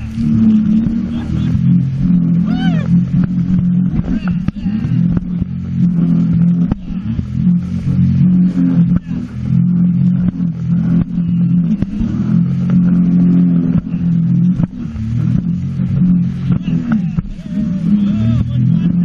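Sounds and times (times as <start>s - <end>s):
jet ski engine running: 0.0s - 19.0s.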